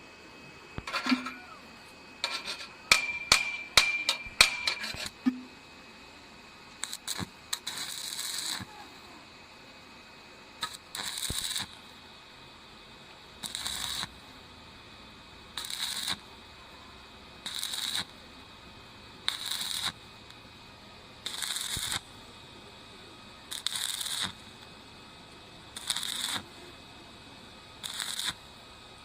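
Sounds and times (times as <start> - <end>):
welding arc crackling and hissing: 0.7 - 5.5, 6.6 - 29.0.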